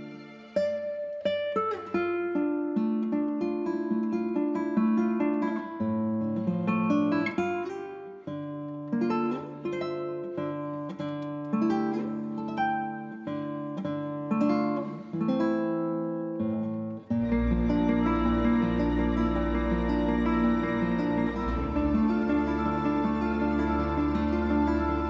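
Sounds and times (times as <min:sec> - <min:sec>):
plucked string instrument music: 0:00.0 - 0:25.0.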